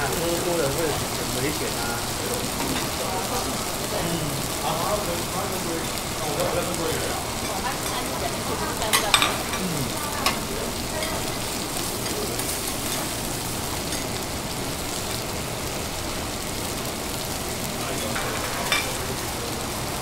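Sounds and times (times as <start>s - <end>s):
food sizzling on a griddle: 0.0s - 20.0s.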